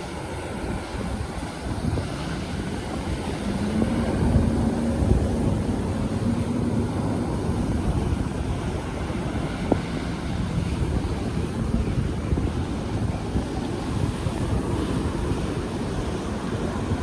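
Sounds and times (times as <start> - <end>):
breaking surf: 0.0 - 17.0
outboard engine running: 0.0 - 17.0
wind buffeting microphone: 0.0 - 17.0.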